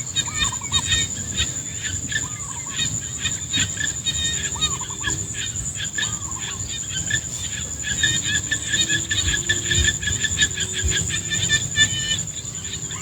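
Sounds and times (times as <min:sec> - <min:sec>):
rapid repeated chirping: 0:00.1 - 0:13.0
high-pitched insect drone: 0:00.2 - 0:13.0.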